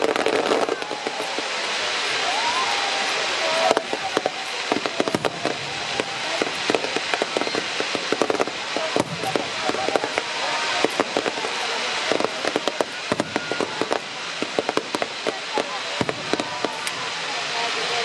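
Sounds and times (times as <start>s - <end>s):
fireworks pops and crackles: 0.0s - 18.0s
steady hiss: 0.0s - 18.0s.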